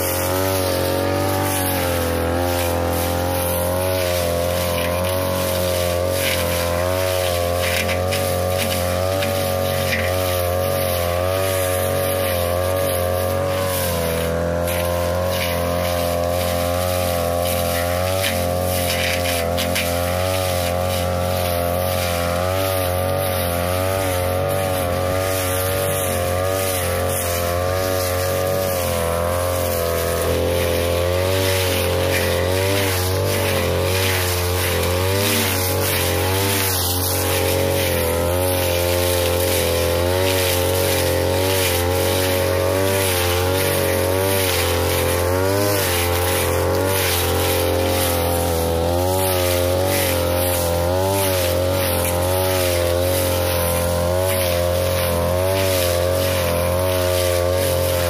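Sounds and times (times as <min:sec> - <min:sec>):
brush cutter running: 0:00.0 - 0:58.0.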